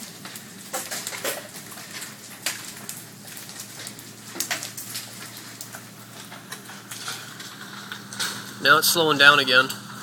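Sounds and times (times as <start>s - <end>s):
hailstones cracking on pavement: 0.0s - 9.7s
hail pattering: 0.0s - 10.0s.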